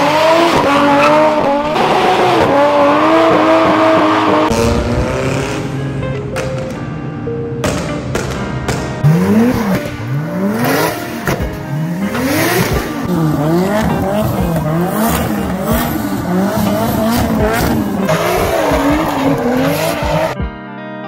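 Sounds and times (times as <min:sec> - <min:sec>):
car engines revving: 0:00.0 - 0:06.9, 0:07.7 - 0:20.4.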